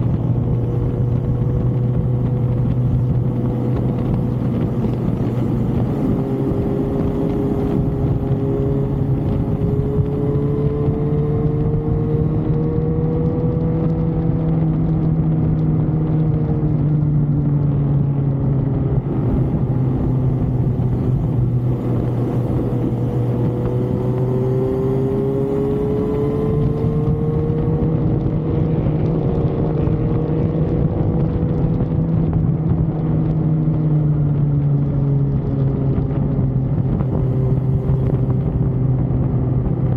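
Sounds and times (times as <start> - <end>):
higher whine: 0.0 - 39.9
road and wind noise: 0.0 - 39.9
vehicle engine hum: 0.0 - 39.9.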